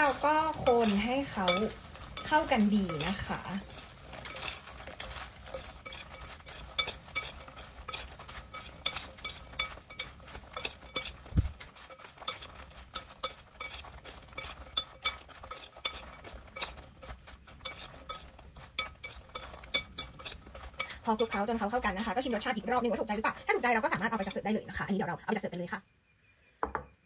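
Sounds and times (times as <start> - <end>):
metal spoon clinking on glass bowl: 0.0 - 22.9.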